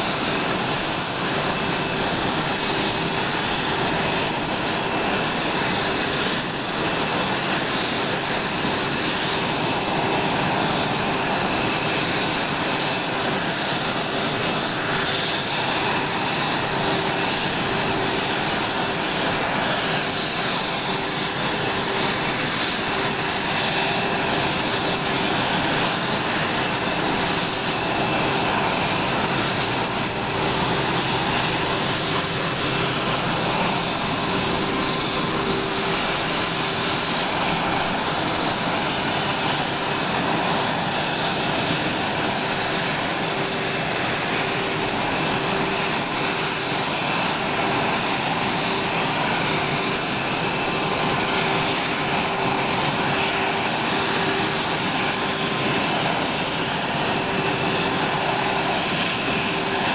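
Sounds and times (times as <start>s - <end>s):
jet turbine whistle and hum: 0.0s - 59.9s.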